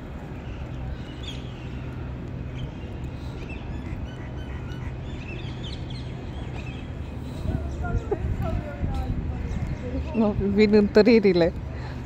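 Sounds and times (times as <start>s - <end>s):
birds chirping: 0.0s - 12.0s
low outdoor rumble: 0.0s - 12.0s.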